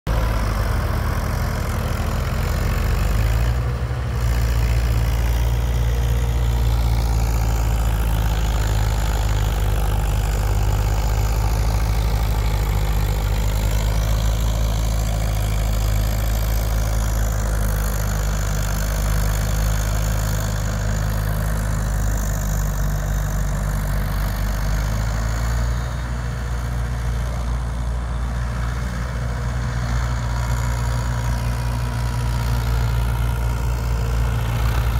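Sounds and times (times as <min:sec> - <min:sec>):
tractor diesel engines under load: 0:00.0 - 0:34.9.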